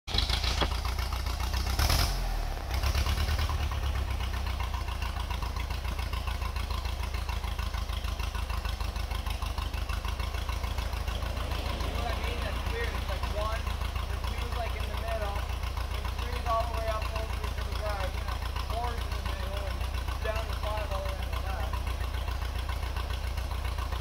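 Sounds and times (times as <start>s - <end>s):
tractor engine idling: 0.1s - 24.0s.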